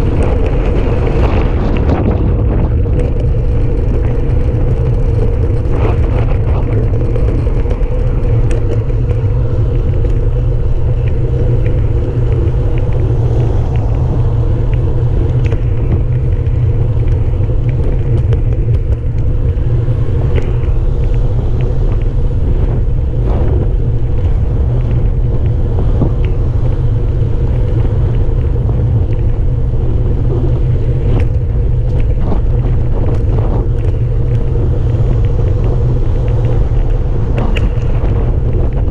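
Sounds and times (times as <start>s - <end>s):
bicycle clicks and rattles: 0.0s - 38.9s
tyre hum on road: 0.0s - 38.9s
wind buffeting microphone: 0.0s - 38.9s.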